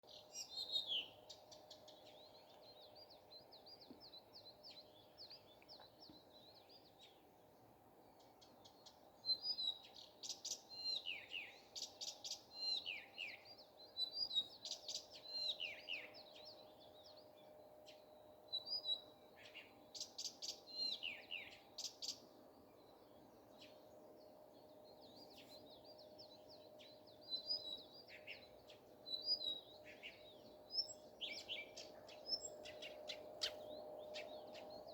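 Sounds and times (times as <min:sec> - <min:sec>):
nightingale singing: 0:00.0 - 0:07.3, 0:08.1 - 0:23.9, 0:24.5 - 0:34.9
faint steady hum: 0:00.1 - 0:34.9.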